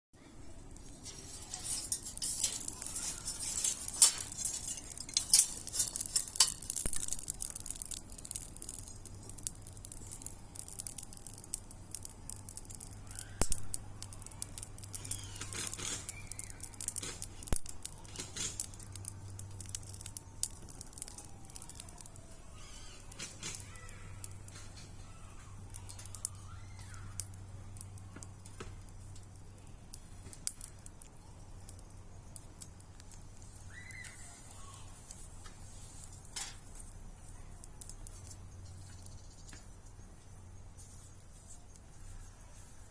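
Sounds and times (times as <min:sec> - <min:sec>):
bonfire crackling and popping: 0:00.2 - 0:42.9.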